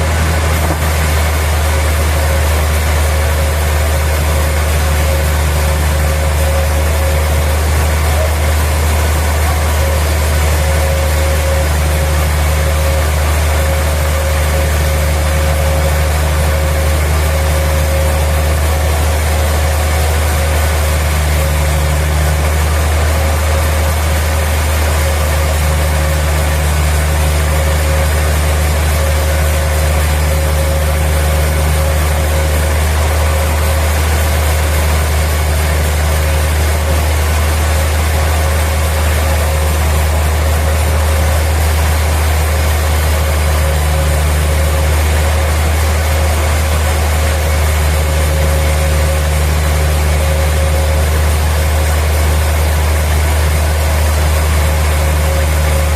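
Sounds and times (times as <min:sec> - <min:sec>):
sawmill machinery drone: 0:00.0 - 0:55.9
steady machine tones: 0:00.0 - 0:55.9.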